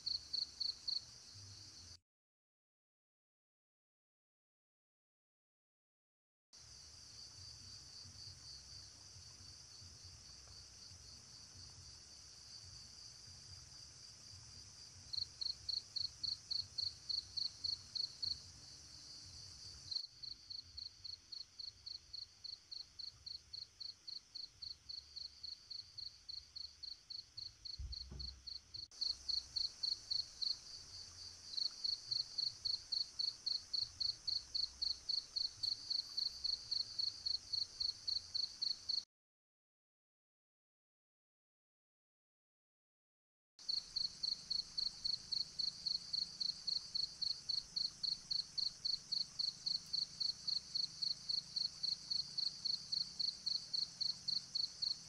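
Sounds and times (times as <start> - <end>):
crickets chirping: 0.0 - 1.9, 6.6 - 39.0, 43.6 - 55.0.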